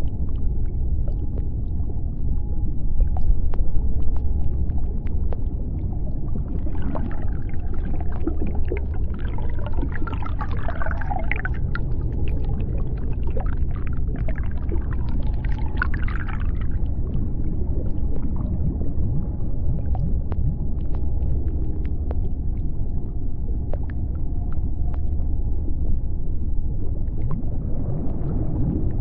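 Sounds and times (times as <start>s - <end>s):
deep underwater rumble: 0.0s - 29.0s.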